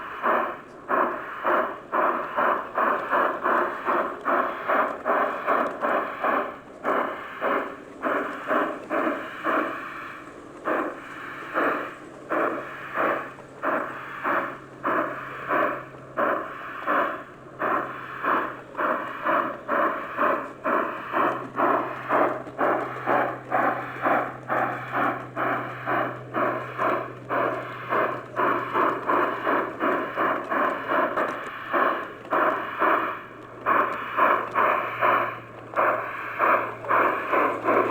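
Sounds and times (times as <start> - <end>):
model train chuffing: 0.0 - 37.9
steady low hum: 0.0 - 37.9.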